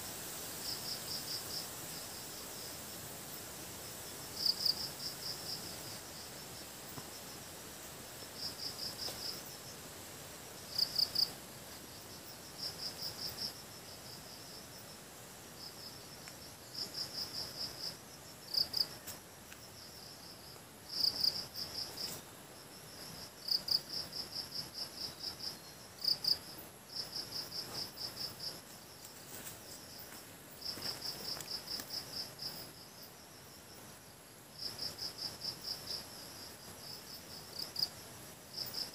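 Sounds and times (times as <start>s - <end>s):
faint high insect drone: 0.0s - 38.9s.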